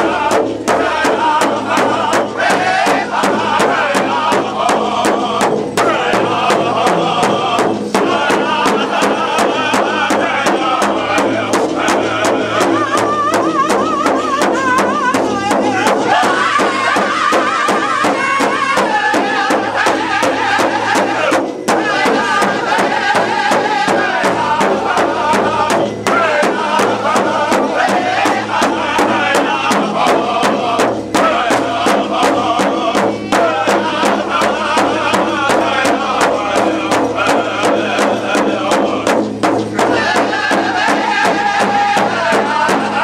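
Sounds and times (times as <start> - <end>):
group singing in high voices: 0.0 - 43.0
large hand drum beating: 0.0 - 43.0.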